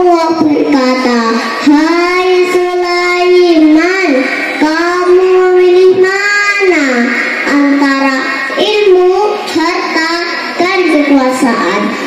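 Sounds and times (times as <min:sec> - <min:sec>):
girl singing into microphone: 0:00.0 - 0:12.0.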